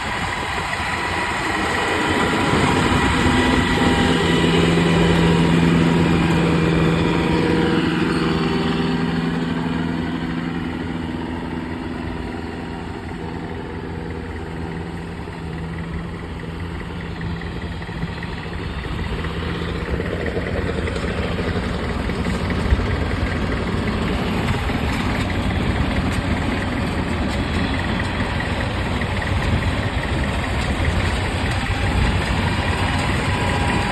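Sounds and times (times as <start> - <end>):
combine harvester diesel engine: 0.0 - 33.9
rough mechanical rumble: 0.0 - 33.9.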